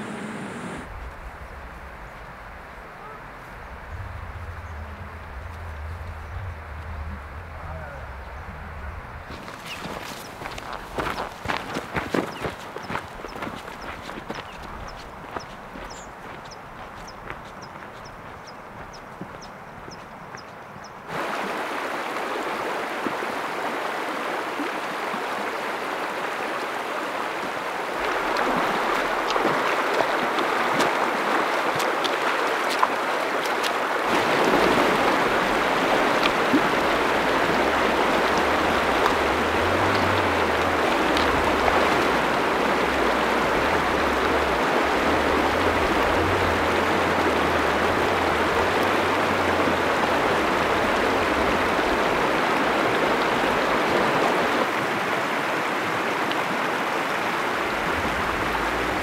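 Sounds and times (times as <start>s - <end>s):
river rushing over stones: 0.0s - 20.0s, 21.0s - 59.0s.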